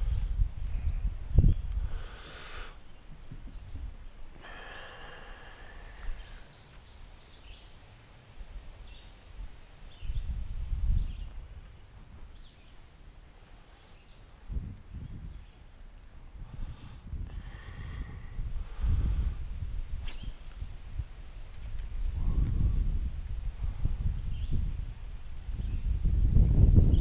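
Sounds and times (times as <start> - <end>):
wind buffeting microphone: 0.0 - 7.6, 8.4 - 12.8, 14.3 - 27.0.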